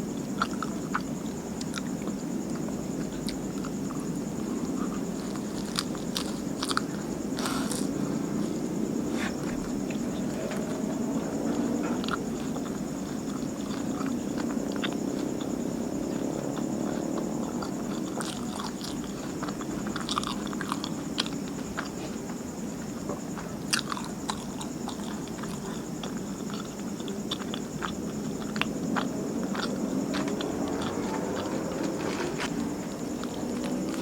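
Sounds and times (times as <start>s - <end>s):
steady background hum: 0.0s - 34.0s
biting and chewing mouth sounds: 0.1s - 34.0s.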